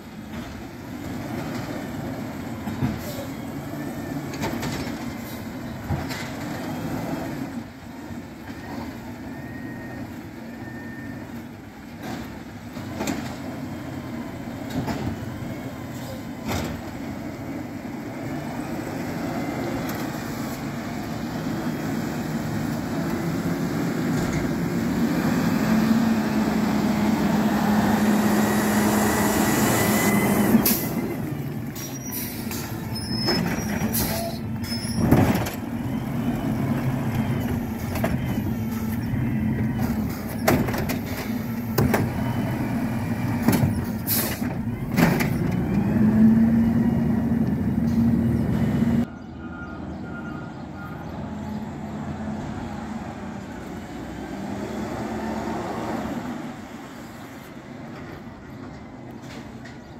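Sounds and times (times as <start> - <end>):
garbage truck engine: 0.0 - 59.9.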